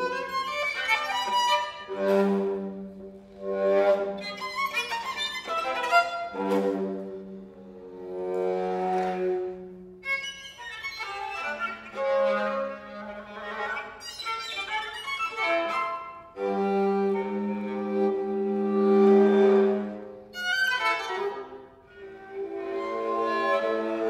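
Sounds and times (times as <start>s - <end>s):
solo bowed viola: 0.0s - 24.0s.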